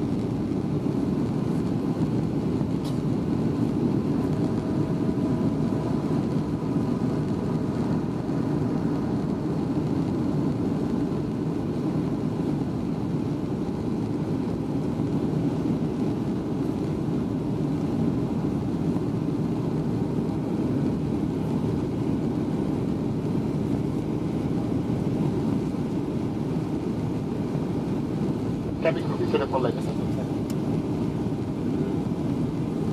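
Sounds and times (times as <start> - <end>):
jet cabin roar: 0.0 - 32.9.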